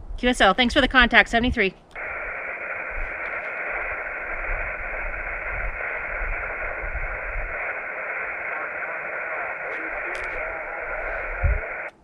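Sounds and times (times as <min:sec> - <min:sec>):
radio speaker hissing: 0:02.0 - 0:12.0.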